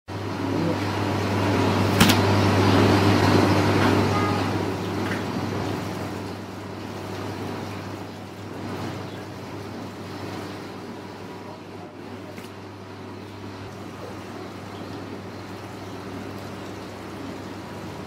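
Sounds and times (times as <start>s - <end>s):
machinery hum: 0.1s - 18.0s.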